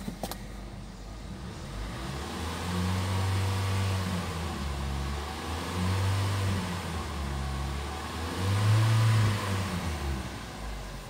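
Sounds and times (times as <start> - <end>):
car engine revving: 1.2 - 11.0.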